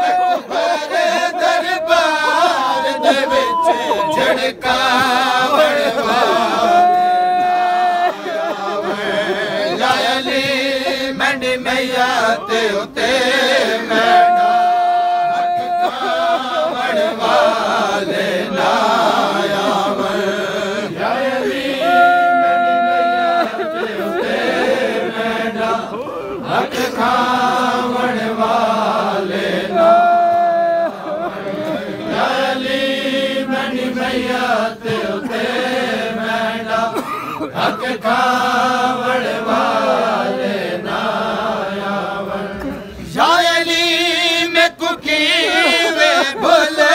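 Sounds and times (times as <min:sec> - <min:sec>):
men chanting a lament: 0:00.0 - 0:46.9.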